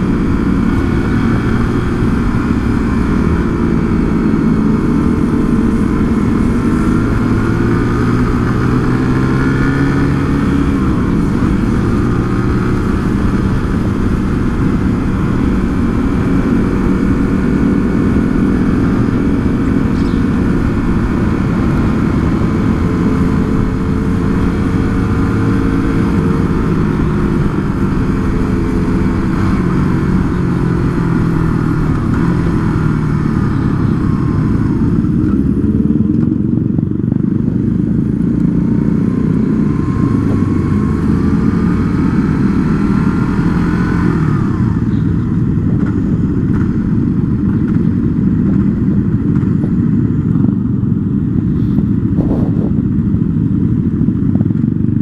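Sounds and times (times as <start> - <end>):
motorcycle engine: 0.0 - 55.0
wind noise on microphone: 0.0 - 55.0.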